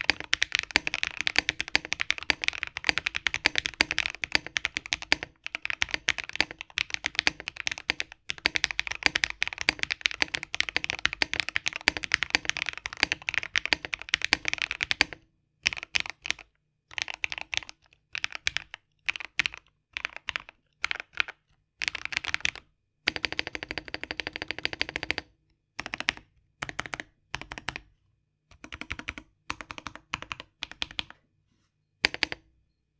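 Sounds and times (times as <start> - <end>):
mechanical keyboard typing: 0.0 - 27.9, 28.5 - 31.2, 32.0 - 32.5.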